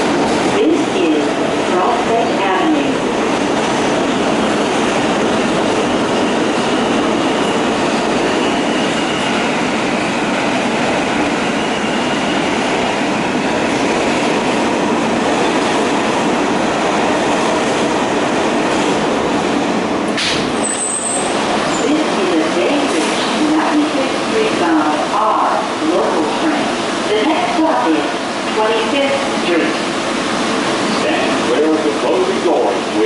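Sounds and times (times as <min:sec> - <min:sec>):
subway wheel and track noise: 0:00.0 - 0:33.0.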